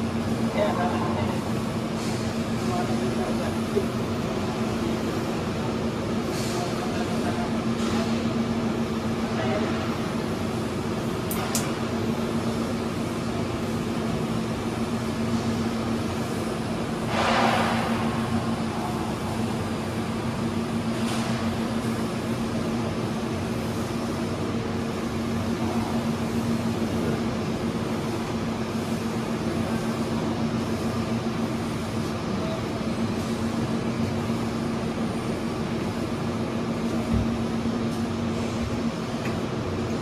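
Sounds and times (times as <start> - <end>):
steady machine hum: 0.0 - 40.0.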